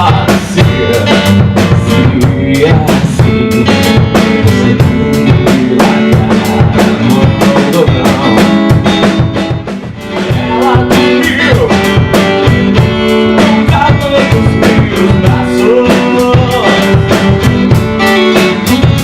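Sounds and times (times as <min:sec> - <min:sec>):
drum kit: 0:00.0 - 0:19.0
guitar: 0:00.0 - 0:19.0
person singing: 0:00.0 - 0:19.0.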